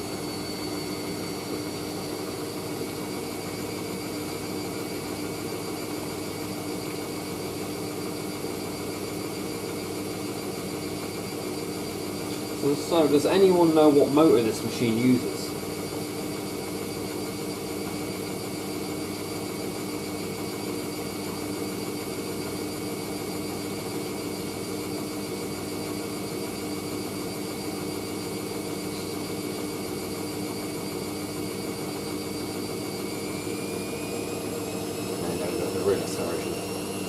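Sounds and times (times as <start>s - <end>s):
washing machine motor whining: 0.0s - 37.0s.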